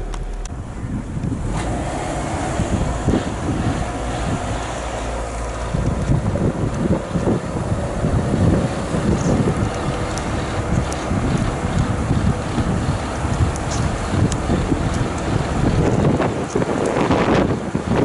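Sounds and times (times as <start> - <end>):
truck engine running: 0.0 - 18.0
wind buffeting microphone: 0.0 - 18.0.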